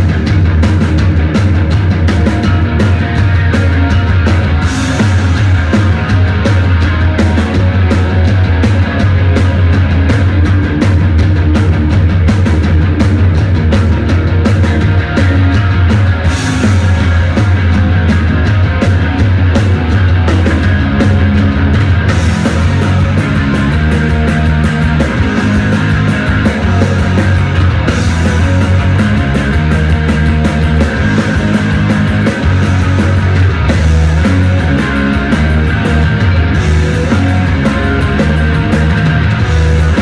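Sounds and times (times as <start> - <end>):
rock band playing loud: 0.0 - 40.0.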